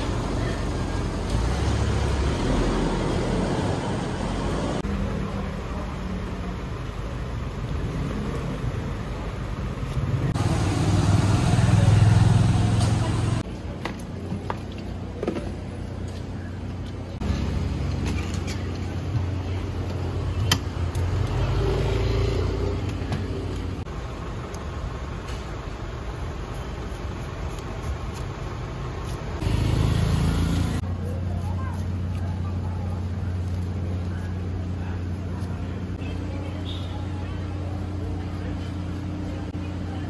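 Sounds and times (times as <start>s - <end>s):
vehicle engines running: 0.0s - 40.0s.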